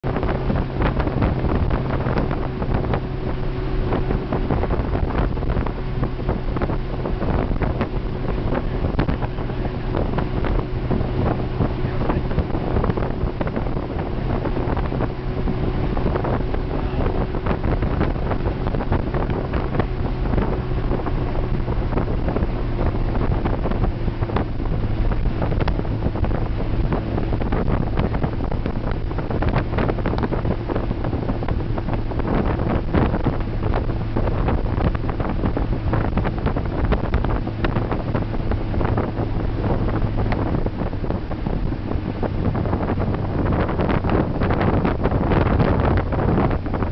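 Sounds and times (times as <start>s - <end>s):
vehicle engine drone: 0.0s - 46.9s
wind buffeting microphone: 0.0s - 46.9s.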